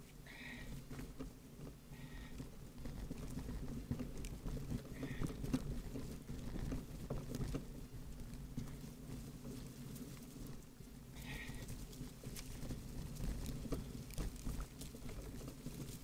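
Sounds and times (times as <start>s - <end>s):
bicycle clicks and rattles: 0.0s - 16.0s
bicycle tyres rumbling on dirt: 0.0s - 16.0s.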